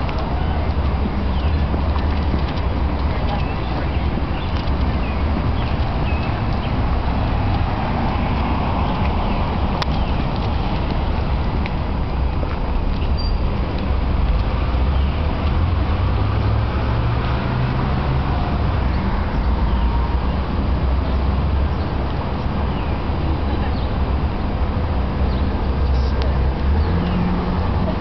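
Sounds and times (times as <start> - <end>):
low rumble of street traffic: 0.0 - 28.0.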